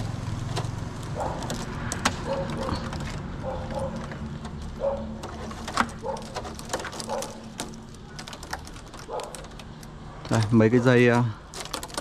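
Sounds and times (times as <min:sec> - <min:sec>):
cables rustling and clicking: 0:00.2 - 0:12.0.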